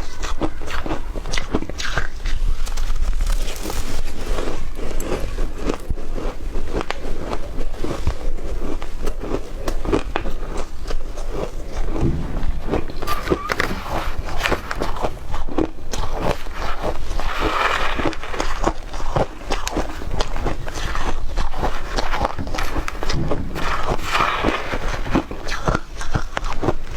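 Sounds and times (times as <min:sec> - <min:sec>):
shaved ice crunching: 0:00.0 - 0:08.1, 0:12.9 - 0:26.6.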